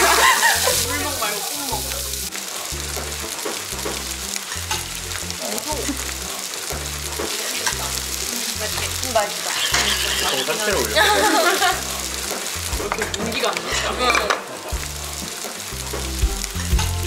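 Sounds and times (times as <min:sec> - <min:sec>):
background music beat: 0:00.0 - 0:17.0
fish sizzling on a grill: 0:00.0 - 0:17.0.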